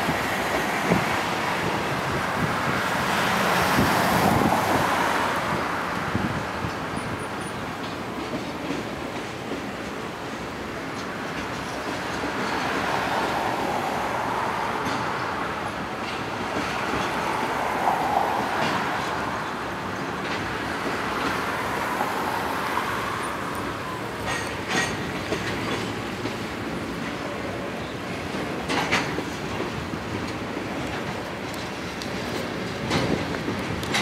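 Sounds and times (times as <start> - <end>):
train wheels rumbling on rail: 0.0 - 34.0
wheels clicking over rail joints: 3.4 - 34.0.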